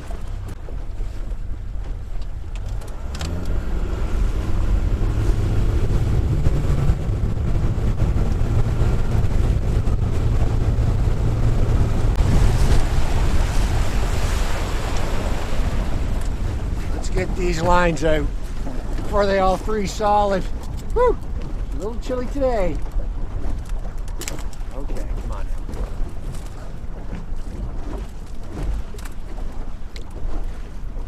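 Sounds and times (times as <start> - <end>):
boat motor running: 0.0 - 31.0
wind: 0.0 - 31.0.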